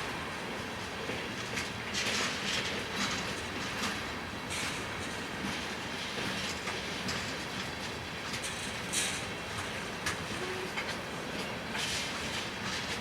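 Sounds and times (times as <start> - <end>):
train wheels clacking over rail joints: 0.0 - 13.0.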